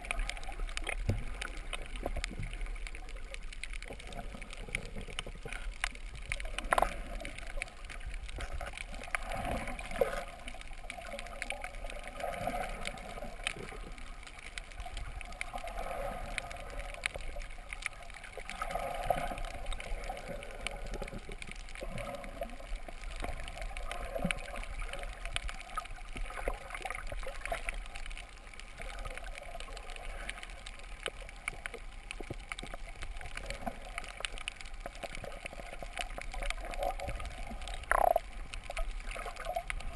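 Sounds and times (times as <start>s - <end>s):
muffled underwater gurgling: 0.0s - 39.9s
small clicks and ticks: 0.0s - 39.9s.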